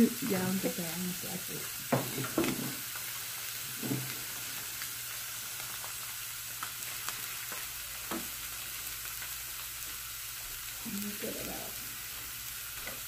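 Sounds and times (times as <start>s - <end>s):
fish sizzling in a skillet: 0.0s - 13.0s.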